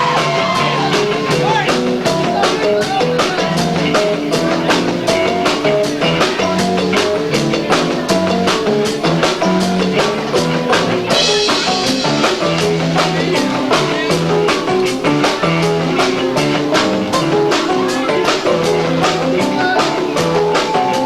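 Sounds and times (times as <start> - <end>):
bass: 0.0 - 21.0
drum kits: 0.0 - 21.0
guitar: 0.0 - 21.0.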